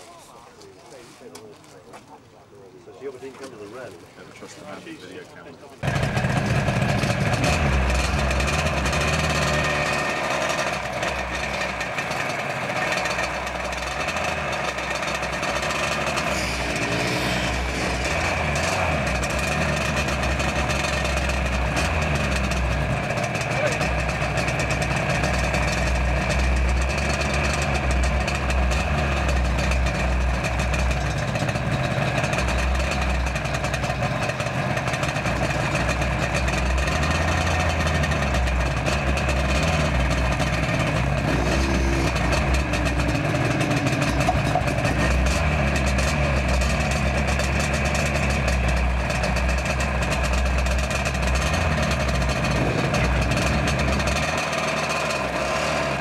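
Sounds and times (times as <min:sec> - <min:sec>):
two-stroke motorcycle engine: 0:05.8 - 0:56.0.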